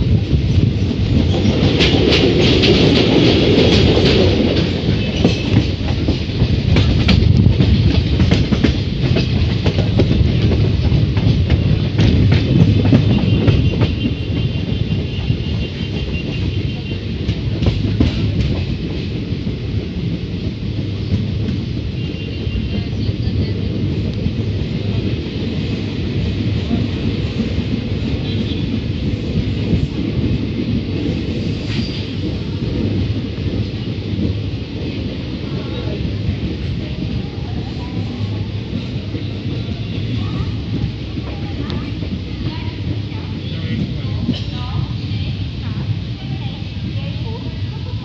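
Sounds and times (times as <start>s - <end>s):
train rumbling on rails: 0.0s - 48.0s
wheels clicking over rail joints: 0.0s - 48.0s.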